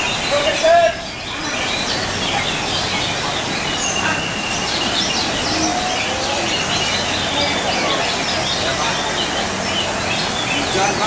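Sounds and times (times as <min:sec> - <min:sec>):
songbirds chorus of whistles: 0:00.0 - 0:11.0.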